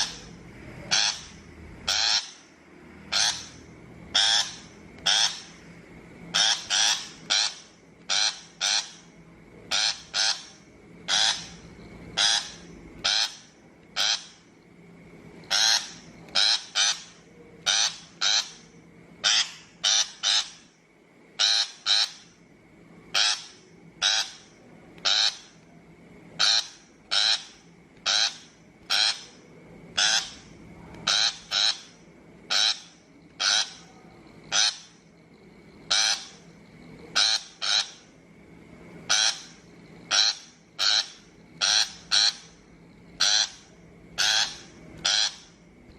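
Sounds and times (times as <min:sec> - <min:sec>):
shrike harsh rasping calls: 0:00.0 - 0:14.5, 0:15.4 - 0:22.4, 0:23.1 - 0:25.6, 0:26.3 - 0:38.2, 0:39.1 - 0:45.6.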